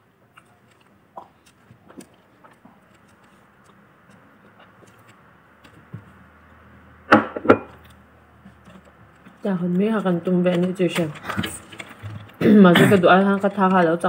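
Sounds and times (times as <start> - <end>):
faint chewing: 0.0 - 6.9, 7.8 - 14.0.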